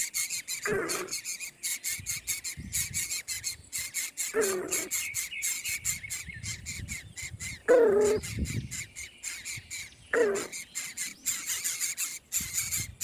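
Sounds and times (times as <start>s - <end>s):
harsh bird squawks: 0.0s - 13.0s.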